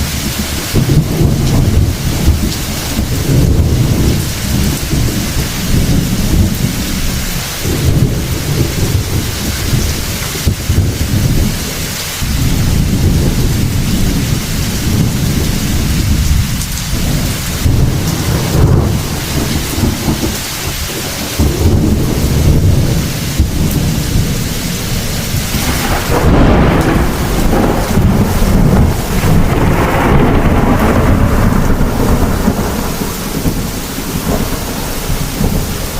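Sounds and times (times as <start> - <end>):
deep thunder rumbling: 0.0 - 35.9
rain hissing and pattering: 0.0 - 35.9.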